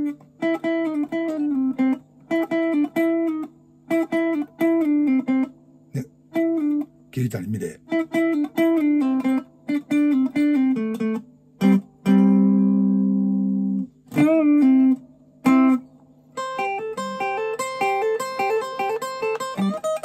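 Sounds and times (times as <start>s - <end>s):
clean electric guitar melody: 0.0s - 7.0s, 7.8s - 20.0s.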